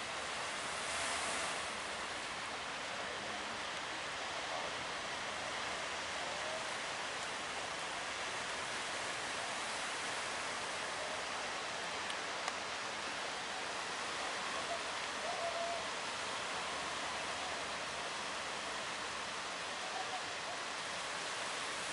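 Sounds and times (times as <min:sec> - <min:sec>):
surf and rough water: 0:00.0 - 0:21.9.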